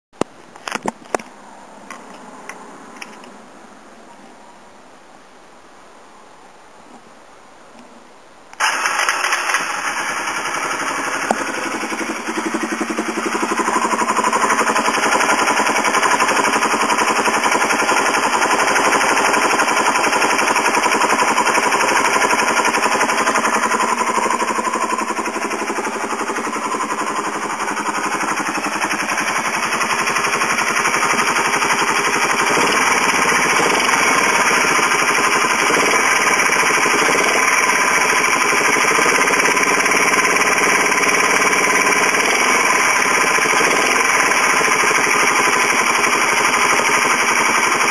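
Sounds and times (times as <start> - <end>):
motorcycle engine clattering: 8.6 - 47.9.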